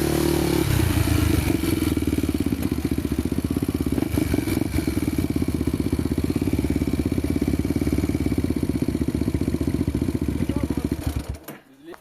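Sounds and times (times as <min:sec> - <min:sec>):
motorcycle engine idling: 0:00.0 - 0:11.5.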